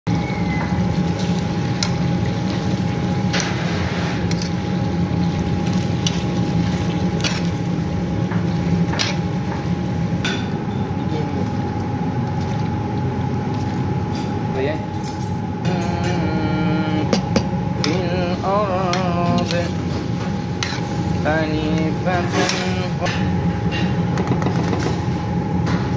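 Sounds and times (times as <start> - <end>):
machine hum with whine: 0.0 - 25.9.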